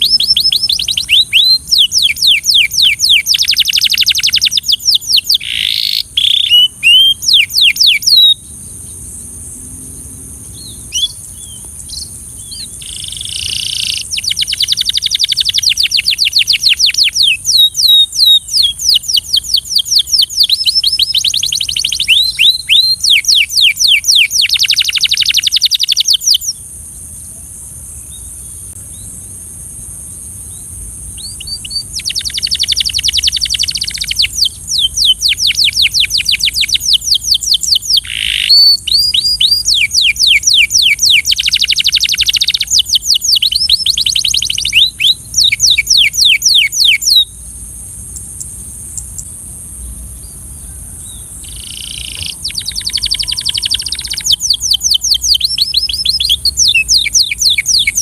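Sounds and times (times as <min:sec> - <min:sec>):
canary singing trills: 0:00.0 - 0:09.4, 0:10.0 - 0:26.6, 0:30.5 - 0:47.5, 0:48.1 - 0:58.0
steady high hiss: 0:00.0 - 0:58.0.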